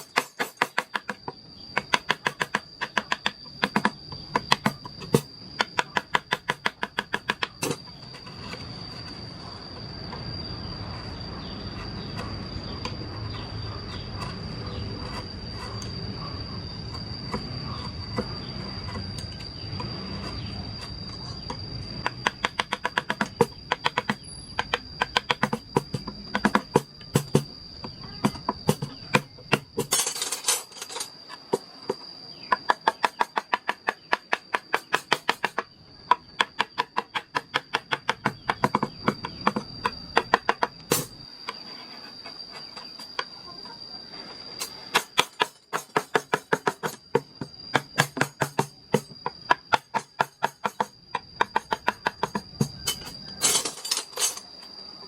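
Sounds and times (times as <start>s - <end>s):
high insect trill: 0.0s - 55.0s.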